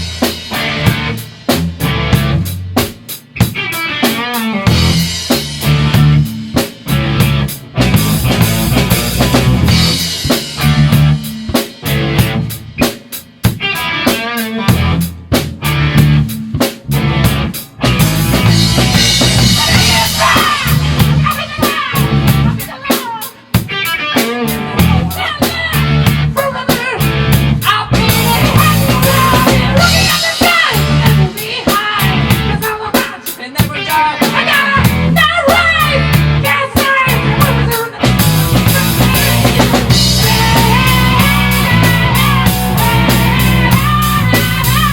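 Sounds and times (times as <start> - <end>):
wavering lead guitar line: 0.0 - 2.6, 3.2 - 12.9, 13.5 - 44.9
bass guitar: 0.0 - 44.9
drum kit beat: 0.0 - 44.9.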